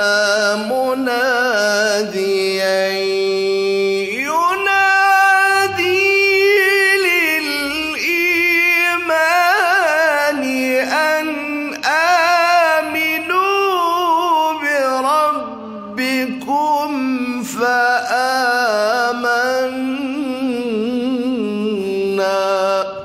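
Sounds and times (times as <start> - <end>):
man reciting melodically: 0.0 - 23.0.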